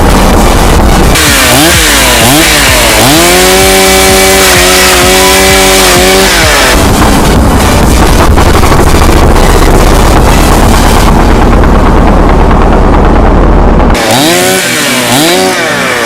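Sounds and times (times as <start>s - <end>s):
chainsaw engine revving: 0.0s - 16.0s
loud rough noise: 0.0s - 16.0s.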